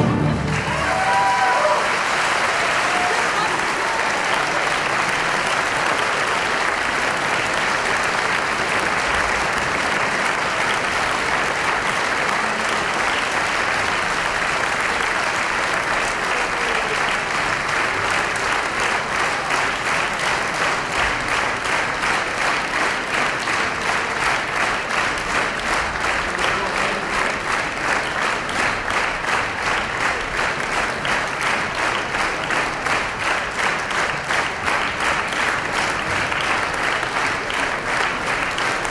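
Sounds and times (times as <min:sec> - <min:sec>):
audience applauding: 0:00.0 - 0:38.9
rhythmic clapping in unison: 0:00.3 - 0:38.9.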